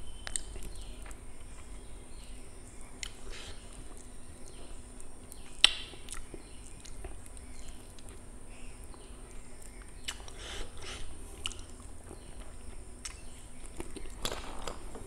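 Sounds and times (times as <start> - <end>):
chewing and lip smacking: 0.1 - 1.8, 2.8 - 8.3, 8.9 - 15.0.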